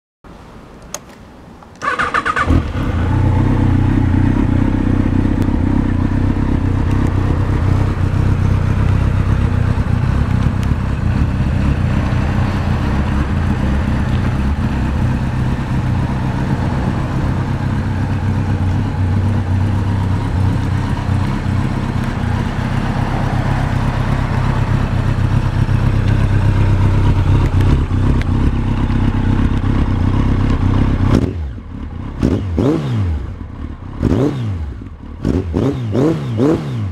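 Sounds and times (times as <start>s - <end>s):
motorcycle engine starting and idling: 0.9s - 36.9s.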